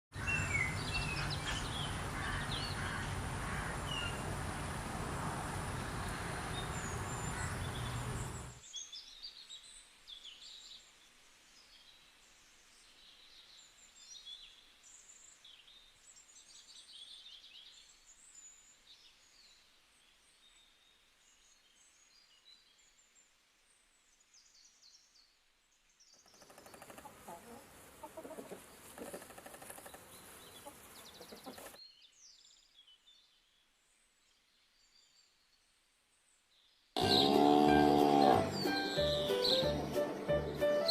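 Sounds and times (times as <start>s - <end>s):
small birds chirping: 5.6s - 40.9s.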